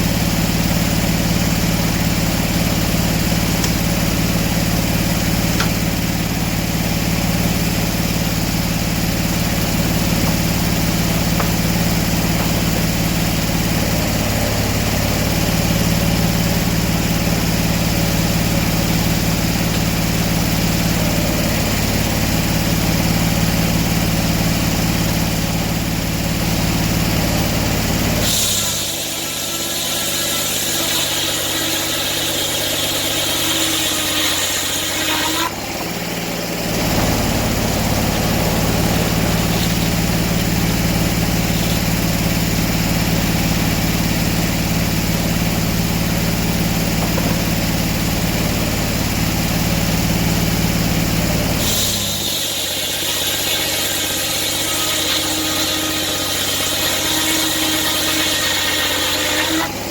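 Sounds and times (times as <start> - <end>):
sawmill engine idling: 0.0 - 59.9.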